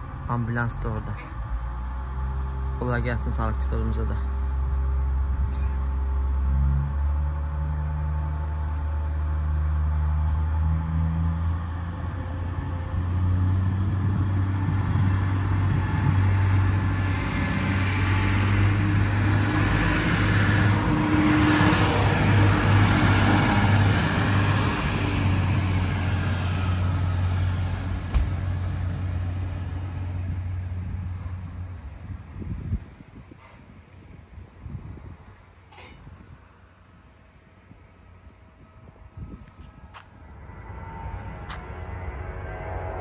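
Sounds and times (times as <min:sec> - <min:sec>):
passenger train passing: 0:00.0 - 0:32.6, 0:36.5 - 0:43.0.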